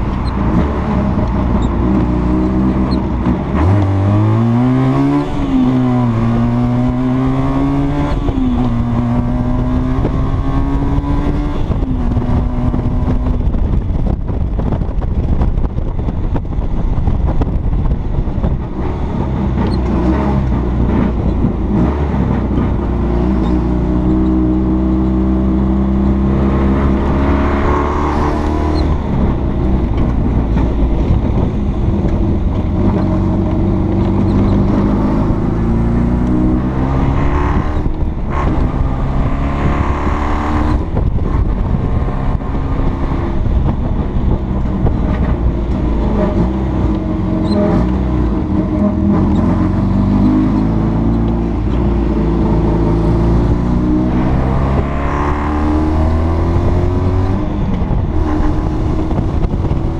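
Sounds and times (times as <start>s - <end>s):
rushing wind noise: 0.0s - 59.9s
two-stroke car engine accelerating: 0.0s - 59.9s.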